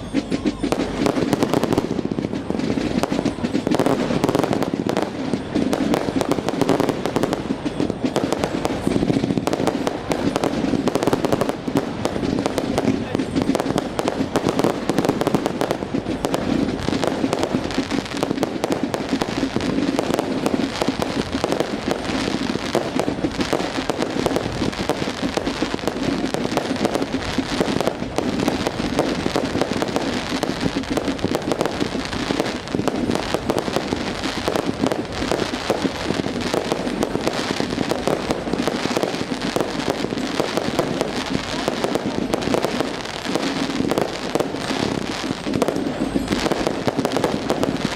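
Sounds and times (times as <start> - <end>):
fireworks crackling and popping: 0.0 - 47.9.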